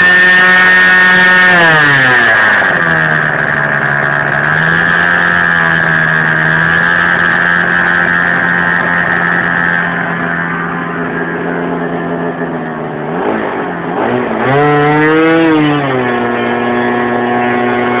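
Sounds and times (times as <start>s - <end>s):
model plane engine running: 0.0s - 13.9s, 14.5s - 18.0s.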